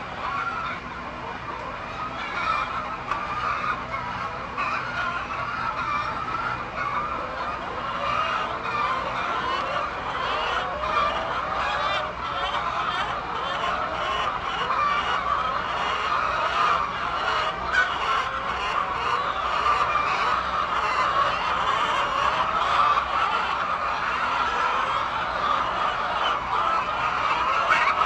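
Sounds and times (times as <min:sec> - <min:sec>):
poultry flock calling: 0:00.0 - 0:28.0.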